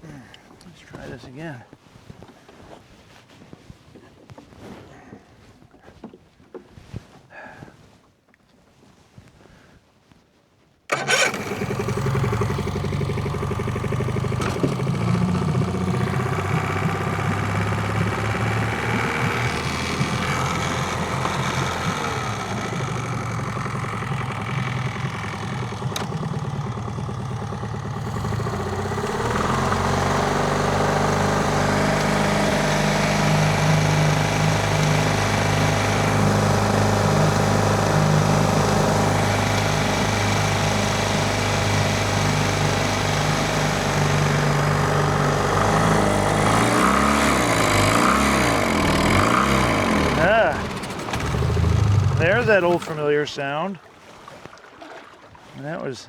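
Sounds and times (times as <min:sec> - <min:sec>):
boat engine running: 0:10.9 - 0:56.0.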